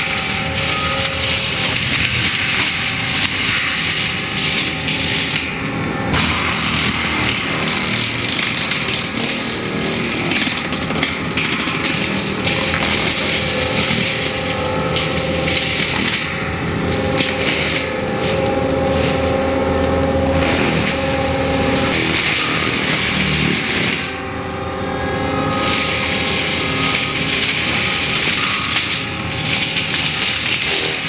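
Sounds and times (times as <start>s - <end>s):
diesel engine under load: 0.0s - 31.0s
mulcher cracking and scraping wood: 0.0s - 31.0s.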